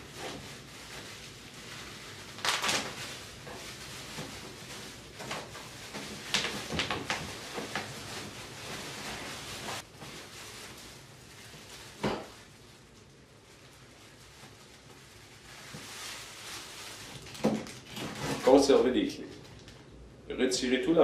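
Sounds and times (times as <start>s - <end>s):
plastic wrapping crinkling: 0.0s - 19.8s.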